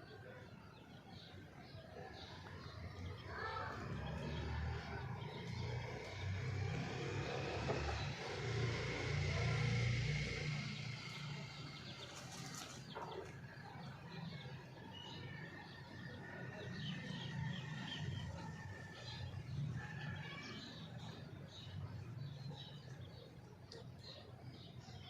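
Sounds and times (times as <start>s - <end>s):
birds chirping softly: 0.0s - 25.0s
faint outdoor background: 0.0s - 25.0s.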